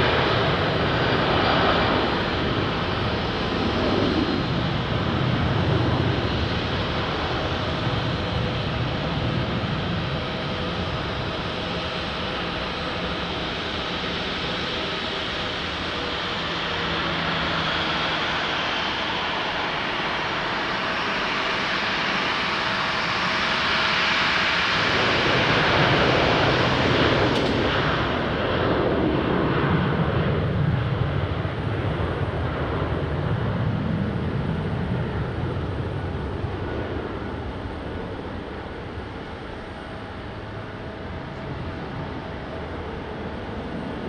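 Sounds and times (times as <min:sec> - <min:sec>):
jet airliner passing: 0:00.0 - 0:44.0.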